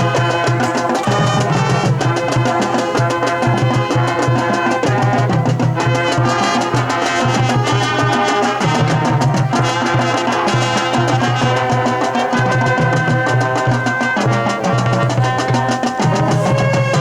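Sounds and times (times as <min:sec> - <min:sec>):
drum line beat: 0:00.0 - 0:17.0
marching band playing: 0:00.0 - 0:17.0.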